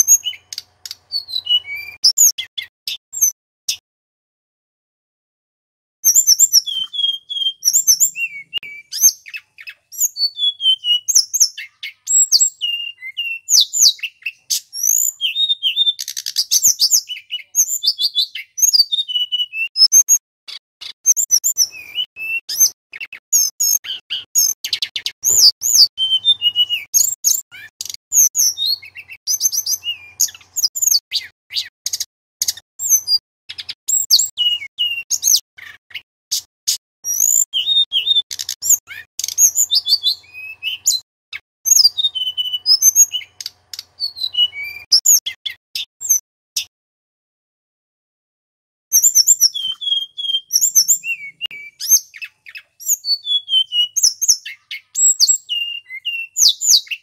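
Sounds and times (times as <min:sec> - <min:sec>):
bird singing whistled notes: 0:00.0 - 0:03.8, 0:06.0 - 0:46.7, 0:49.0 - 0:57.0.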